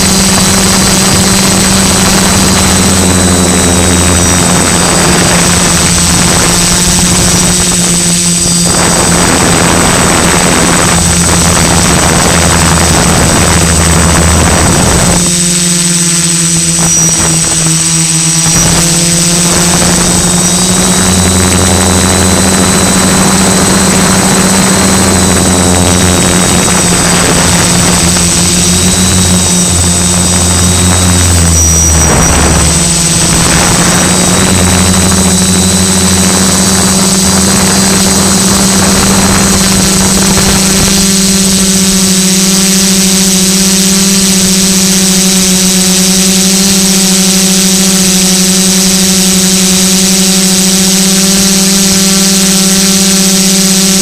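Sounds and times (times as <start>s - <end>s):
drone propellers buzzing: 0.0s - 54.0s
lower motor hum: 0.0s - 54.0s
thin high whine: 0.0s - 54.0s.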